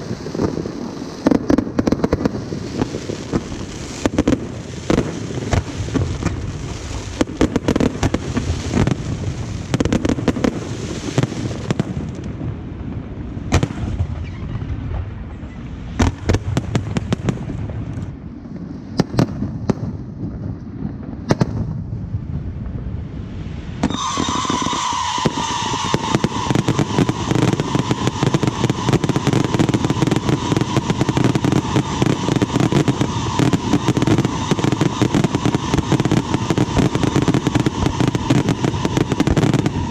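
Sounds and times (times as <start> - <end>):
fireworks bursting: 0.0 - 21.9, 23.6 - 39.9
fireworks crackling: 0.0 - 39.9.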